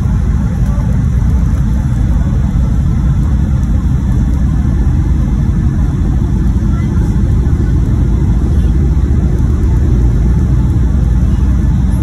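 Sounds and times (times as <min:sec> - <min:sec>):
airliner engines rumbling in cabin: 0:00.0 - 0:12.0
wheels running on runway: 0:00.0 - 0:12.0.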